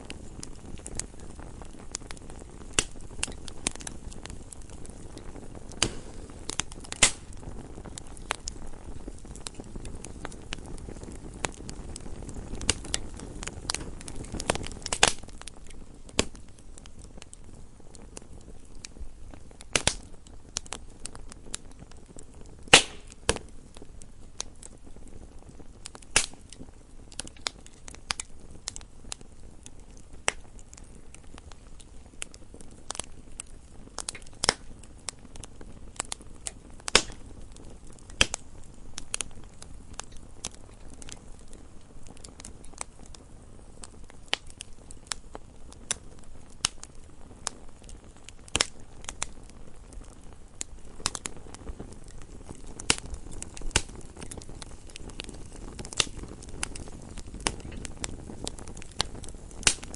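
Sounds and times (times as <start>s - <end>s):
fire crackling and popping: 0.0s - 59.9s
flames hissing: 0.0s - 59.9s.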